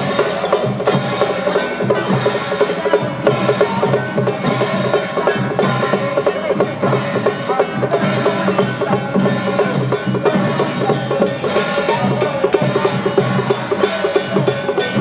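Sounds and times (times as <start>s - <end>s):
percussion striking steady beat: 0.0s - 15.0s.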